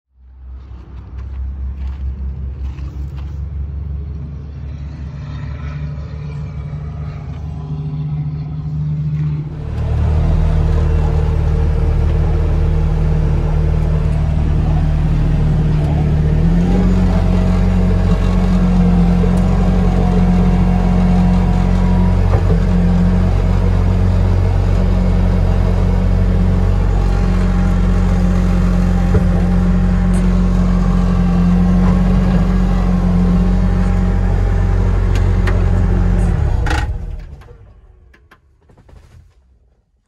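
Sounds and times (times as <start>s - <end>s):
diesel engine rumbling: 0.1s - 39.1s.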